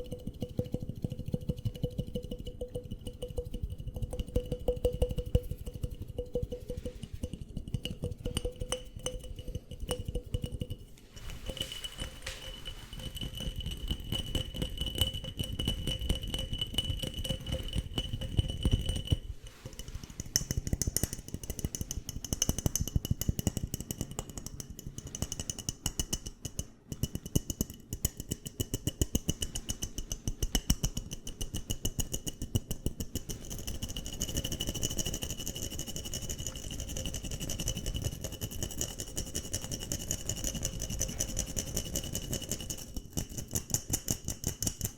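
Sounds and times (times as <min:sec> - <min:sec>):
tapping and scratching on objects: 0:00.0 - 0:44.9.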